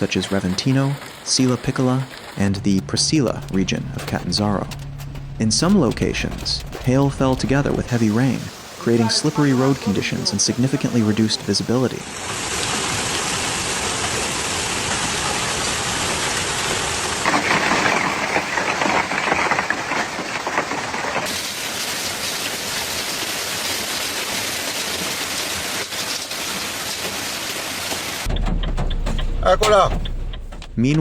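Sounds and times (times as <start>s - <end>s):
heavy rain drumming on surfaces: 0.0s - 30.6s.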